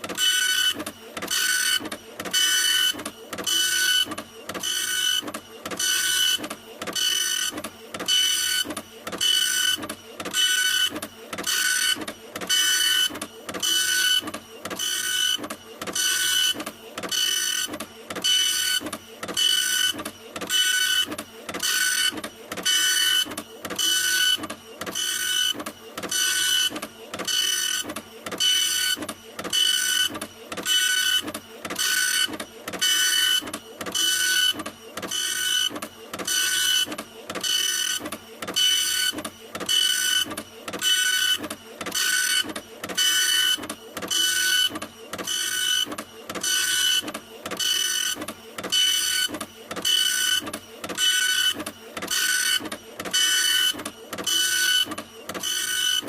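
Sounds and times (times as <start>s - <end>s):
printer running: 0.0s - 56.0s.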